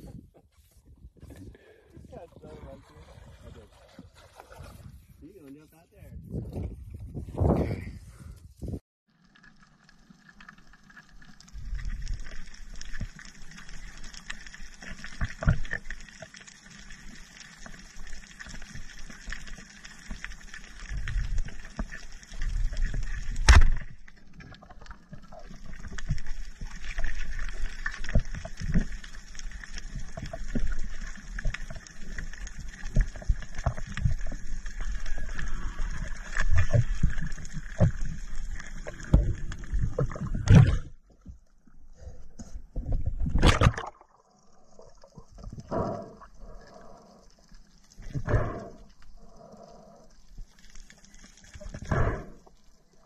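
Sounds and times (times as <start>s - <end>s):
underwater low rumble: 9.1s - 53.0s.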